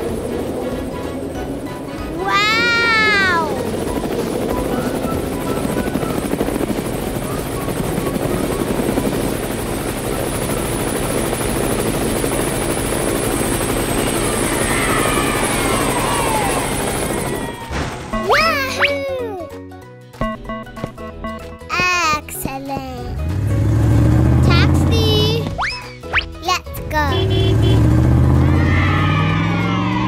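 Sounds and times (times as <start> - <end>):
helicopter rotor and engine drone: 0.0 - 19.6, 20.2 - 30.0.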